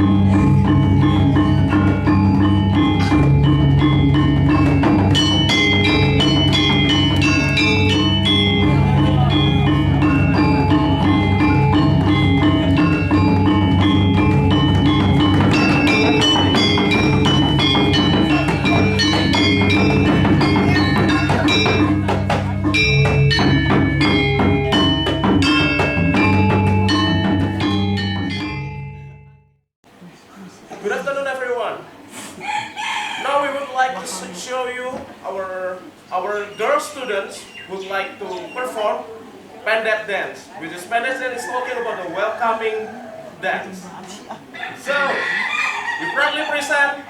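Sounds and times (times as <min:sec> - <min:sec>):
metallophones playing fast: 0:00.0 - 0:29.4, 0:32.8 - 0:39.1, 0:44.4 - 0:47.0.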